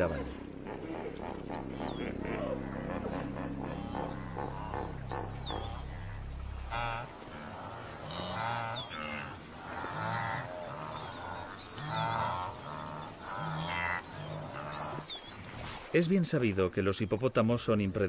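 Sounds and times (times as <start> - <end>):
wildebeest herd grunting: 0.0 - 15.1.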